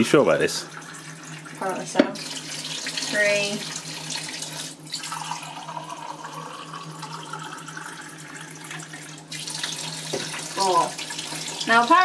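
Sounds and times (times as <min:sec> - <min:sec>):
tap water running into a mug: 0:00.0 - 0:12.0.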